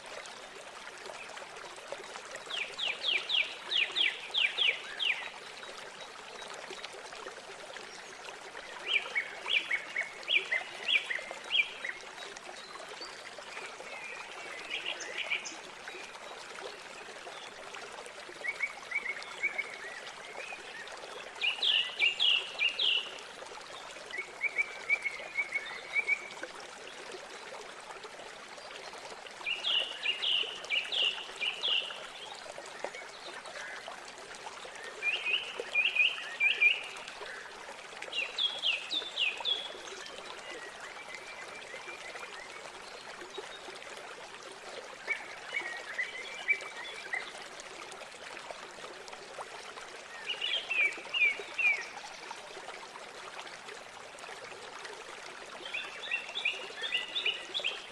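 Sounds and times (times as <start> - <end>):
flowing river water: 0.0 - 57.9.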